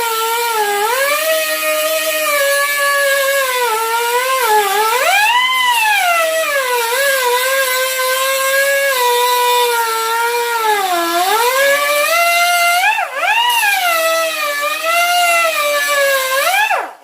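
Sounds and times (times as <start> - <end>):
grinder cutting metal: 0.0 - 17.0.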